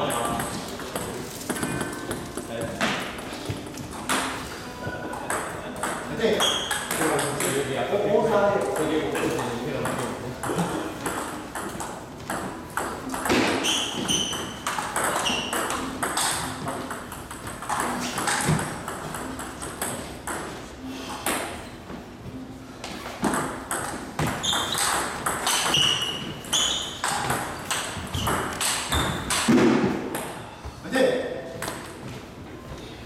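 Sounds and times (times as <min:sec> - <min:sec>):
table tennis balls clicking: 0:00.0 - 0:04.4, 0:05.2 - 0:07.7, 0:08.6 - 0:21.6, 0:23.1 - 0:30.4.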